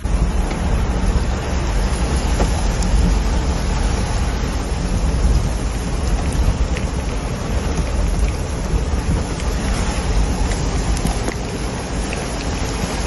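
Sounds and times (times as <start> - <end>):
engine and road rumble: 0.0 - 13.0
heavy rain on vehicle: 0.0 - 13.0.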